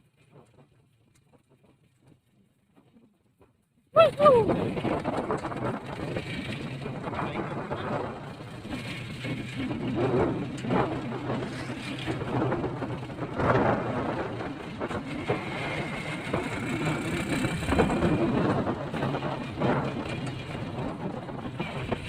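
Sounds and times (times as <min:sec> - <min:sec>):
road noise: 0:04.0 - 0:22.0.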